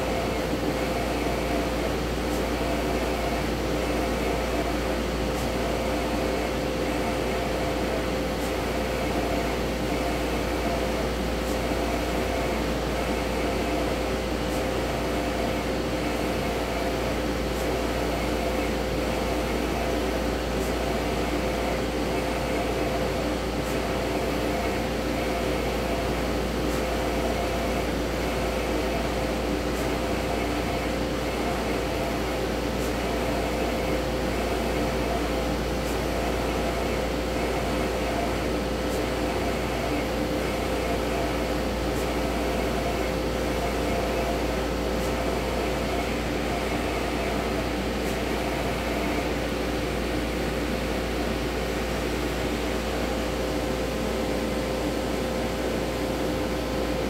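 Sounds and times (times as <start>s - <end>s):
printer mechanical hum: 0.0s - 57.0s.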